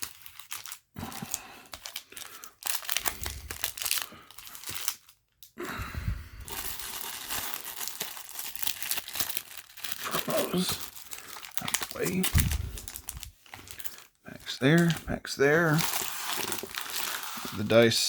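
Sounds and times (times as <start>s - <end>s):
plastic and foil wrappers crinkling: 0.0s - 5.6s, 6.3s - 18.0s.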